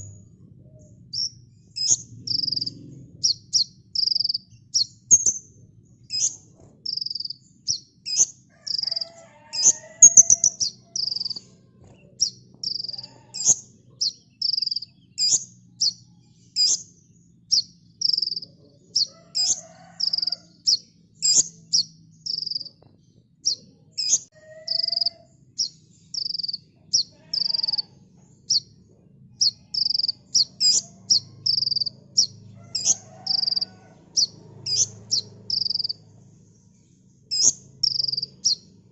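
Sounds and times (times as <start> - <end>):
sunbird singing high chirps: 0.8 - 22.8, 23.5 - 28.8, 29.4 - 38.8.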